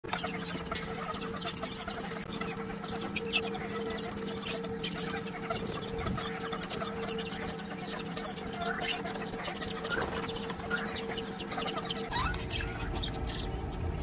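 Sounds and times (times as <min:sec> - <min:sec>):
steady low hum: 0:00.0 - 0:14.0
young birds peeping and chirping: 0:00.0 - 0:14.0.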